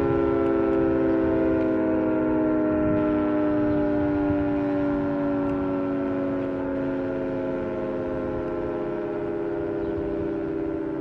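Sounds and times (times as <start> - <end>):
warning siren winding down: 0.0 - 11.0.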